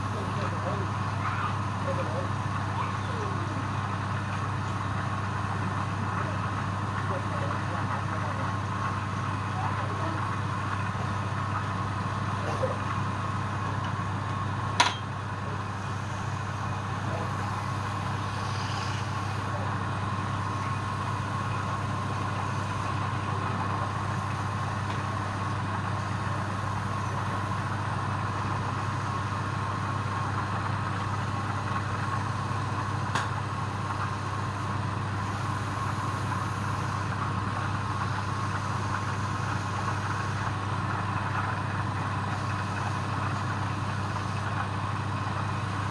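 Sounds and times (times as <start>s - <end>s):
machine humming: 0.0s - 45.9s.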